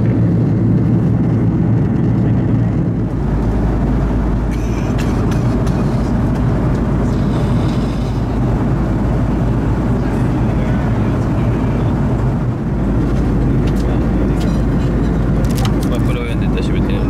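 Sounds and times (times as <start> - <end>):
jet cabin engine drone: 0.0 - 17.0.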